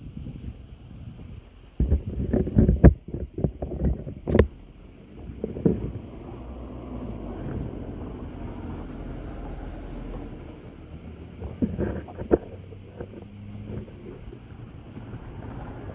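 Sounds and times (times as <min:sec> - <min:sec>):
exhaust pops: 0:01.2 - 0:15.9.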